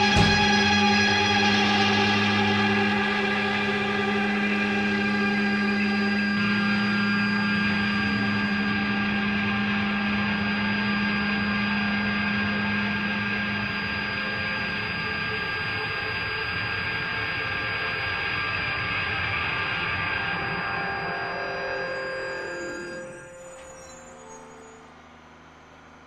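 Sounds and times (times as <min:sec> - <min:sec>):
low hum: 0:00.0 - 0:26.0
noisy drone with held tones: 0:00.0 - 0:26.0.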